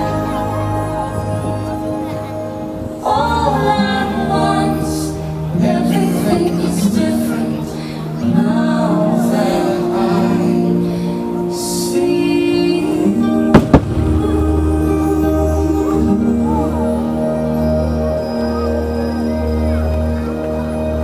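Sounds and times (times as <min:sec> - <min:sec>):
person singing: 0:00.0 - 0:19.2
music with held chords: 0:00.0 - 0:21.0.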